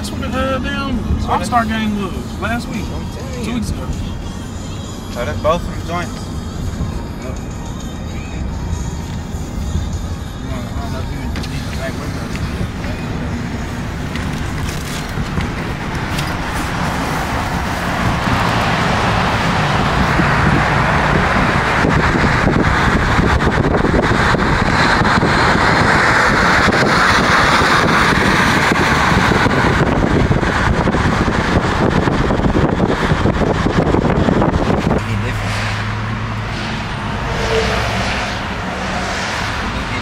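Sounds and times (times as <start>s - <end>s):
car road and wind noise: 0.0s - 40.0s.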